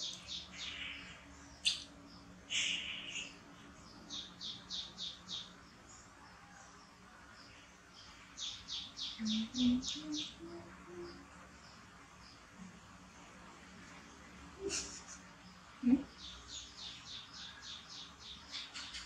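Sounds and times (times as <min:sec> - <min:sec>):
small bird chirping: 0:00.0 - 0:12.5, 0:14.7 - 0:19.0.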